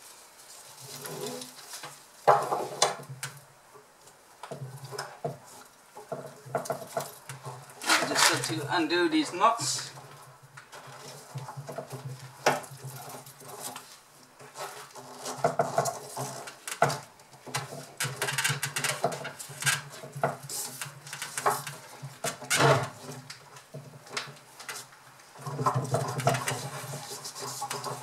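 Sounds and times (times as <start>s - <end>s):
rope rustling and scraping: 0.0s - 3.2s, 4.0s - 28.0s.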